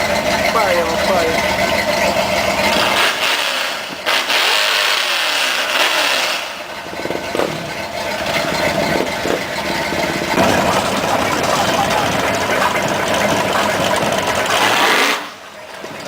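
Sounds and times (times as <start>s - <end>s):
car engine revving: 0.0s - 16.0s
sharp crack: 2.0s - 15.8s.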